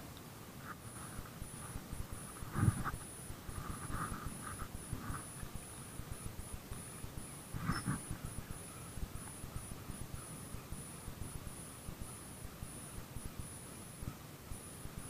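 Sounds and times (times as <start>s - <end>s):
high thin pulsing chirp: 0.7s - 15.0s.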